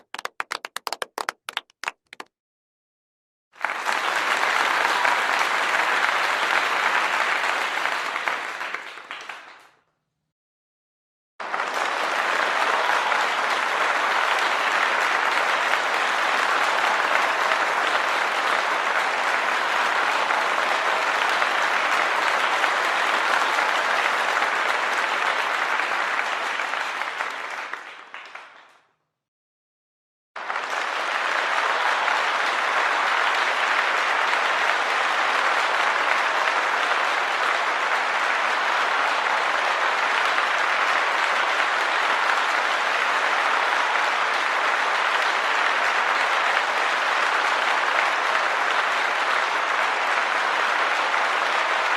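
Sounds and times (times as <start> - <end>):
crowd applauding: 0.0 - 2.3, 3.5 - 9.8, 11.4 - 28.8, 30.4 - 51.9.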